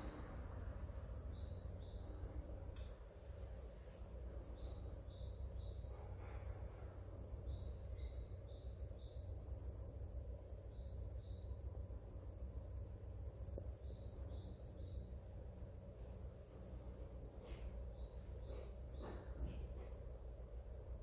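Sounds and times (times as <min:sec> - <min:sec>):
low background rumble: 0:00.0 - 0:21.0
small birds chirping: 0:00.0 - 0:21.0.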